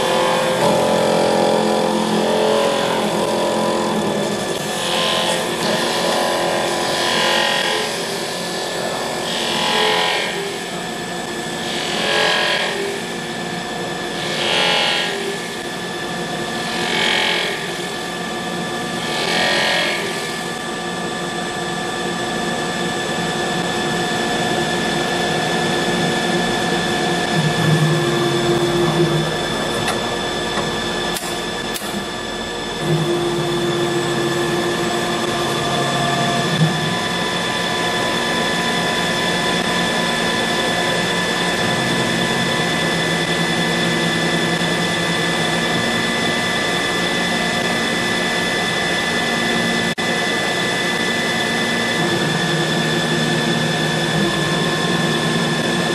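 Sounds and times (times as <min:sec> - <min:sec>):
lathe motor whine: 0:00.0 - 0:55.9.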